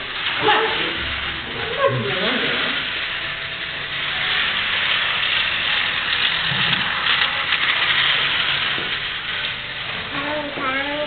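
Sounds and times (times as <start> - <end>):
toy train motors whirring: 0.0 - 11.0.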